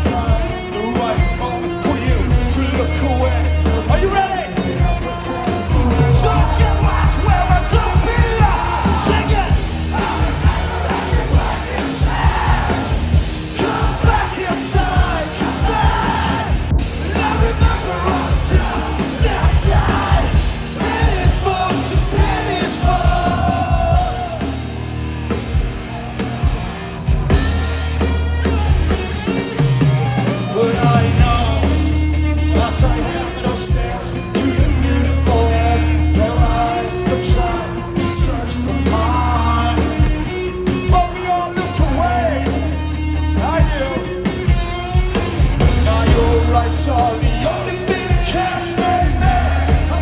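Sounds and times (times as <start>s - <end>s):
live rock band playing: 0.0s - 50.0s
yelled and sung vocals: 0.0s - 50.0s.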